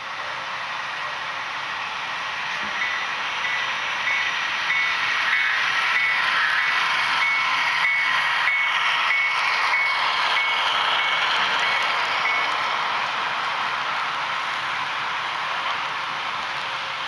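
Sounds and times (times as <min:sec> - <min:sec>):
model train rushing hiss: 0:00.2 - 0:17.0.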